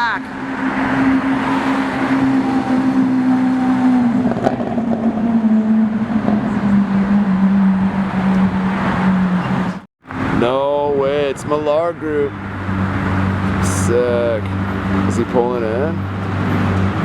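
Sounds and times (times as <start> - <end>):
car engine running at low revs: 1.9 - 17.0.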